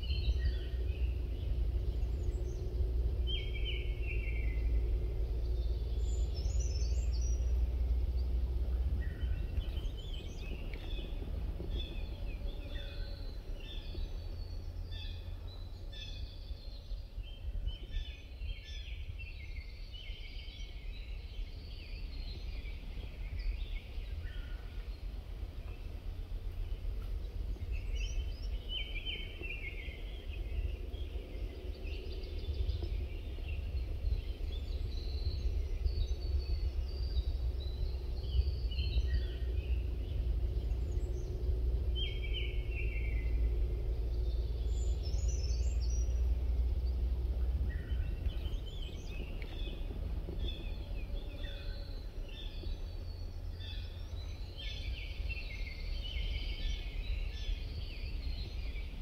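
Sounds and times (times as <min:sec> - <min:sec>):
small birds chirping: 0:00.0 - 0:59.0
steady low rumble: 0:00.0 - 0:59.0.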